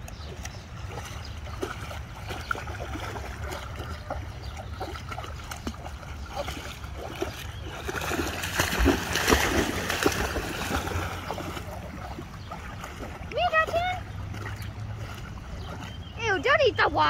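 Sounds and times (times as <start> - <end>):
dog splashing through water: 0.0 - 16.6.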